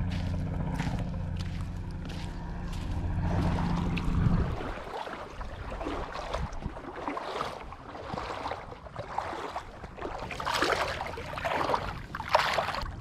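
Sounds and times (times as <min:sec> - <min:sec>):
wading through shallow water: 0:00.0 - 0:13.0.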